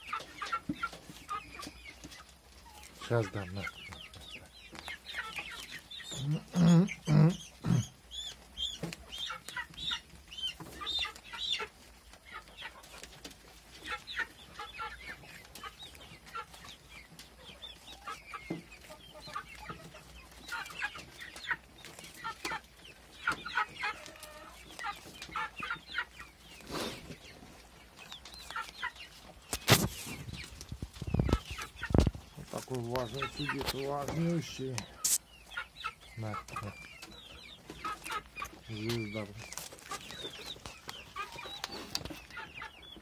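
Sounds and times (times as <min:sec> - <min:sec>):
animals gnawing and crunching apples: 0:00.0 - 0:43.0.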